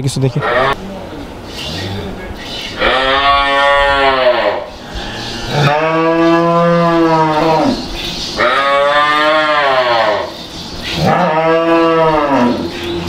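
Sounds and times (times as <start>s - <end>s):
cattle mooing: 0.3s - 2.2s, 2.8s - 10.4s, 11.0s - 13.0s.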